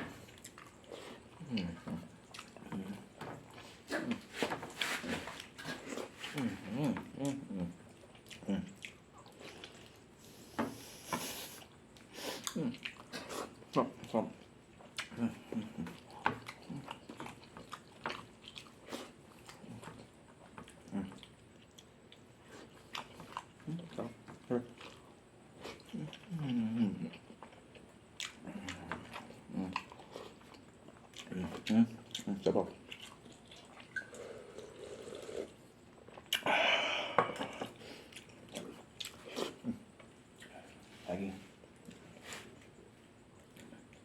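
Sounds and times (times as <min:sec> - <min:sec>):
chewing and biting food: 0:00.0 - 0:36.5, 0:37.3 - 0:40.9.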